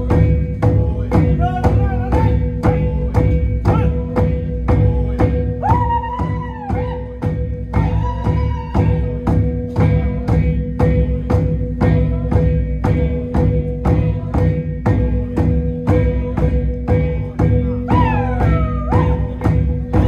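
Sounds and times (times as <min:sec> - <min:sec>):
drum beat: 0:00.0 - 0:20.0.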